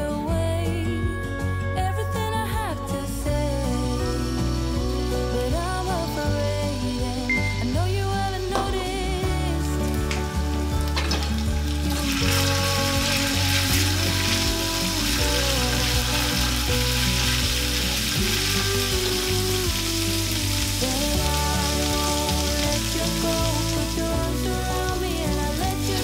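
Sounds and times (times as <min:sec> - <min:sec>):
background music: 0:00.0 - 0:26.0
garlic sizzling in hot oil: 0:04.1 - 0:26.0.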